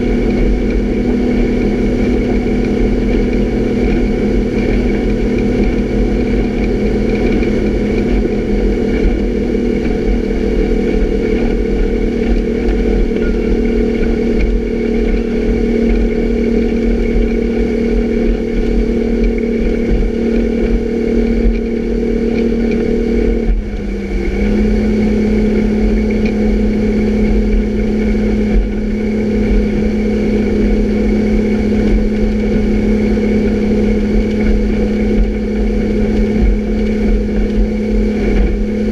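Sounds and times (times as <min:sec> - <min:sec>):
motorboat engine running: 0:00.0 - 0:38.9
wake rushing: 0:00.0 - 0:38.9.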